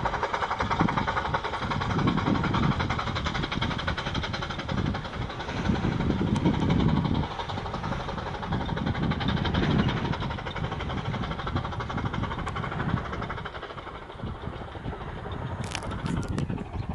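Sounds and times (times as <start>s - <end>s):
steady rumble: 0.0s - 16.9s
steam locomotive exhaust chuffing: 0.0s - 16.9s.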